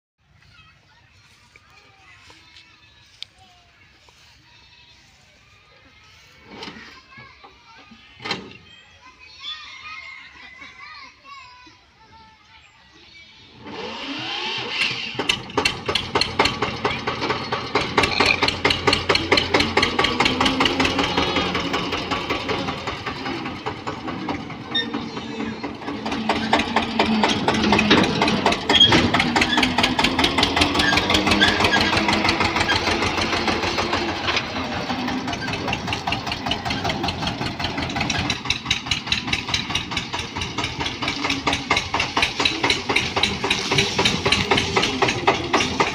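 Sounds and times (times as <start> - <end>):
tractor diesel engine running: 0.2 - 10.0, 13.0 - 45.9.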